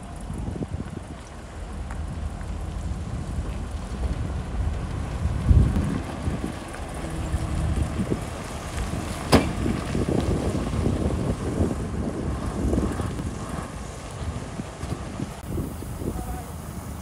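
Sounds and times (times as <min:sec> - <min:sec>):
diesel engine running: 0:00.0 - 0:17.0
wind buffeting microphone: 0:00.0 - 0:17.0.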